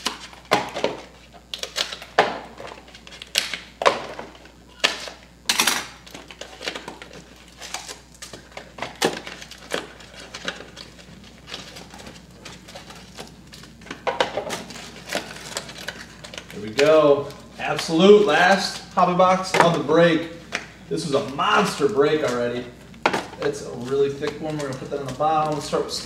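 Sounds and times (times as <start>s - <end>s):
foil packs ripping and crinkling: 0.0s - 26.0s.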